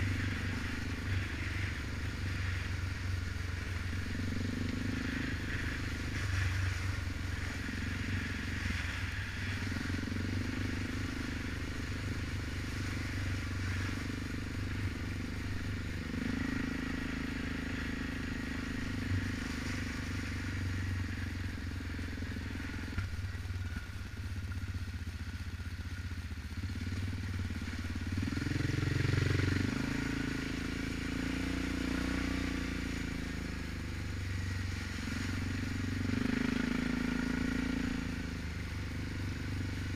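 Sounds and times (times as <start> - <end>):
atv engine revving: 0.0 - 24.3, 26.5 - 39.9.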